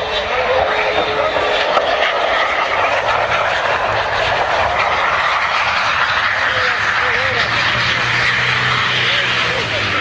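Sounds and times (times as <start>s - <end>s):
aircraft engines running: 0.0s - 10.0s.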